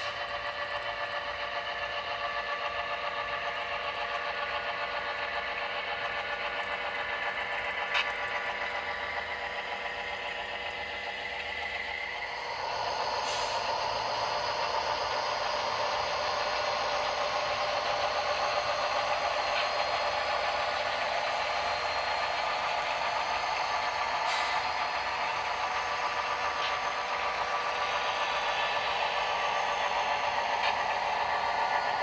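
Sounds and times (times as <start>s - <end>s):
model train running with rattle: 0.0s - 32.0s.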